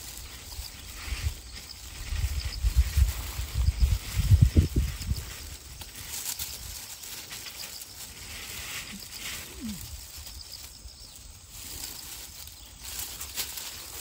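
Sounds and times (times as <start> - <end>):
dry grass rustling: 0.0 - 14.0
plastic bag crackling: 0.0 - 14.0.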